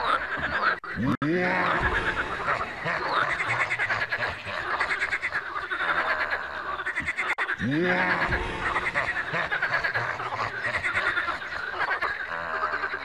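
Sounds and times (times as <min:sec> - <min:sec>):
chorus of frogs croaking: 0:00.0 - 0:13.0.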